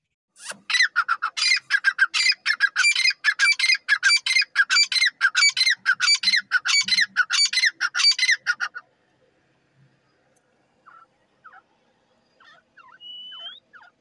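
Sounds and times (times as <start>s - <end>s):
francolin calling: 0.8s - 8.9s, 10.8s - 14.0s.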